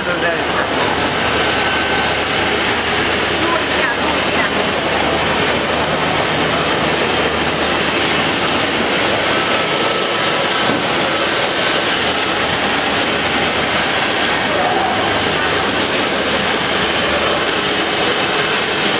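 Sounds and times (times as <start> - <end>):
drilling machine running: 0.0 - 18.9.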